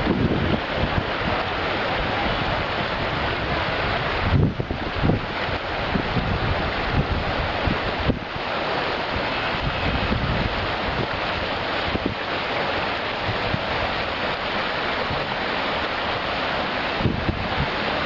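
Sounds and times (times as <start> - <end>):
river rushing over stones: 0.0 - 18.0
wind buffeting microphone: 0.0 - 18.0.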